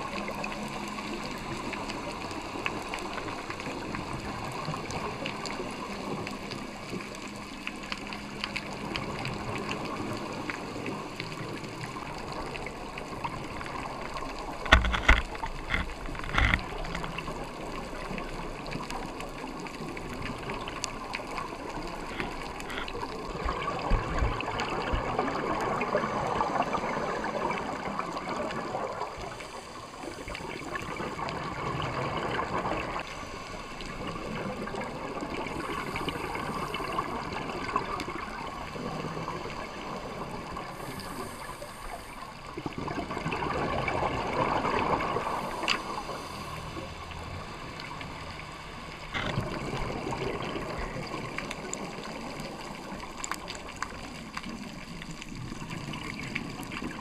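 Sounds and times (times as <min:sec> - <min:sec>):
underwater bubbles gurgling: 0:00.0 - 0:57.0.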